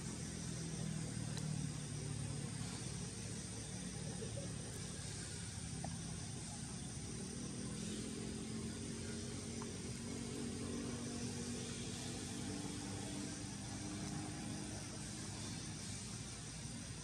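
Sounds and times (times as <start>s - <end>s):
distant engine drone: 0.0s - 17.0s
outdoor rumble and hiss: 0.0s - 17.0s.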